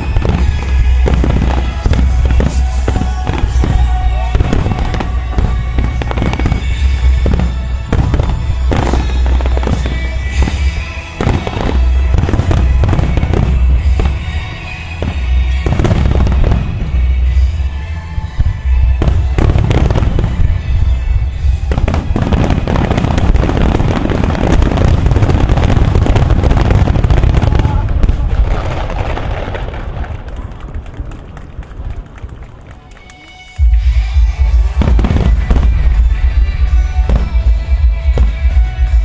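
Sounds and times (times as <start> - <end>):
heavy low booming: 0.0 - 30.0, 33.6 - 39.0
music playing: 0.0 - 39.0.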